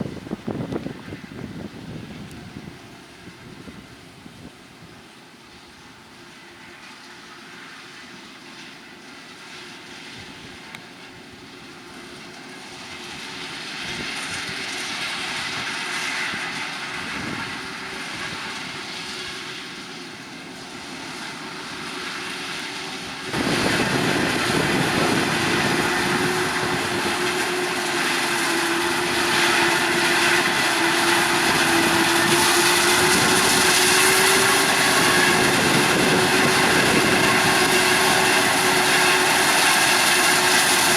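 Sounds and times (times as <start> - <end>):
heavy machinery engine drone: 0.0 - 40.9.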